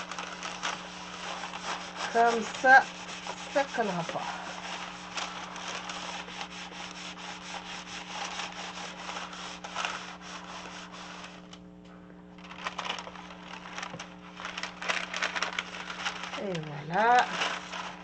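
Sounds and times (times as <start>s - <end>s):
iron rubbing over parchment paper: 0.0s - 11.6s, 12.4s - 18.0s
parchment paper rustling: 0.0s - 11.6s, 12.4s - 18.0s.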